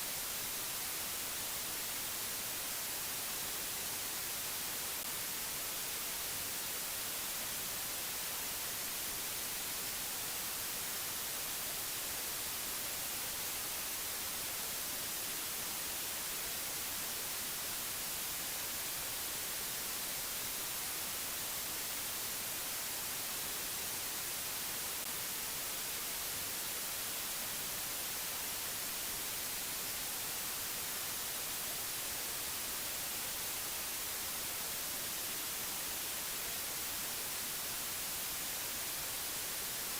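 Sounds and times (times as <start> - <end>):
steady static hiss: 0.0 - 39.9.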